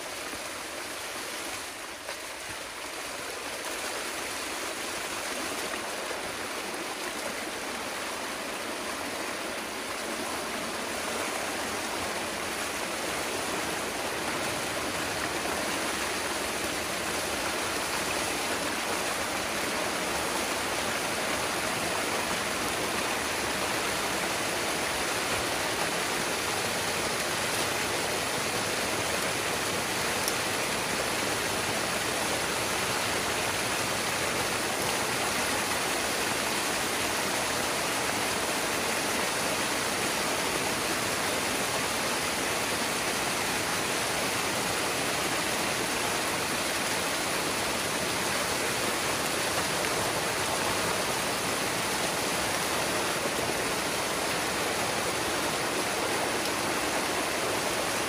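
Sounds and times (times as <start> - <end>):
water rushing through dam breach: 0.0 - 58.0.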